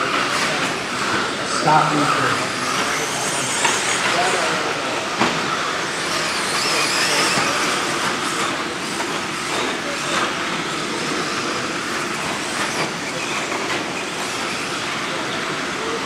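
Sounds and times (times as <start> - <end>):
electric motor whines: 0.0 - 16.0.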